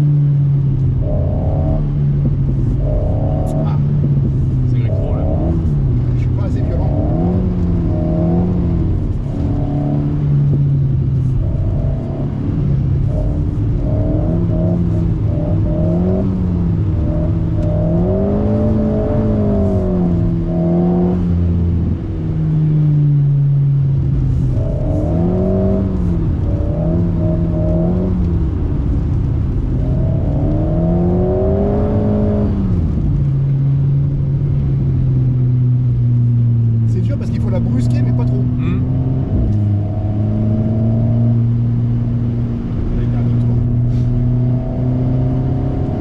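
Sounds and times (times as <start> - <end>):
car engine revving from inside cabin: 0.0 - 46.0.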